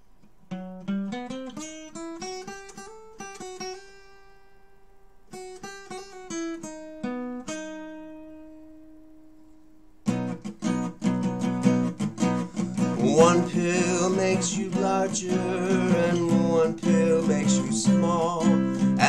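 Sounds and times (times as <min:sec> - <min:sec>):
acoustic guitar picking notes: 0:00.0 - 0:19.0.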